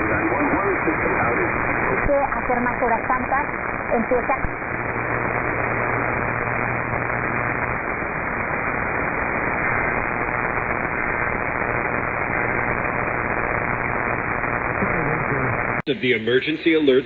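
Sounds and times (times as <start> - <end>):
low hum: 0.0 - 16.0
radio static hiss: 0.0 - 17.0.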